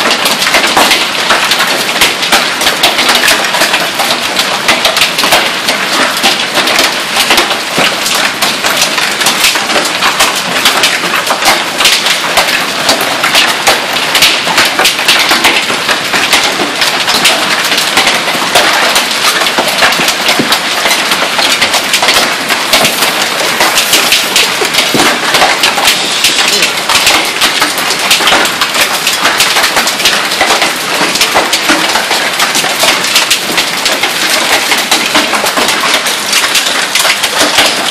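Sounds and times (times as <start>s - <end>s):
hail and heavy rain on concrete: 0.0s - 37.9s.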